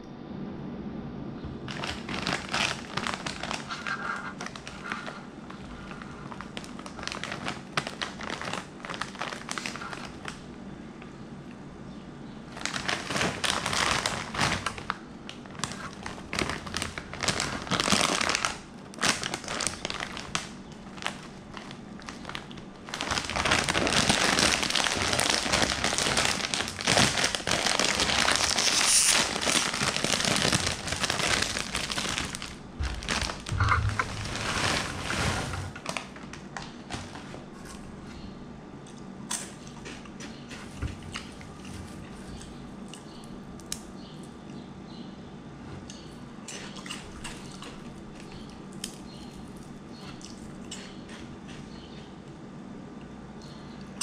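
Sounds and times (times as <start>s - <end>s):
plastic snack bag crinkling: 1.6s - 10.5s, 12.5s - 38.3s, 39.3s - 43.8s, 46.7s - 52.0s.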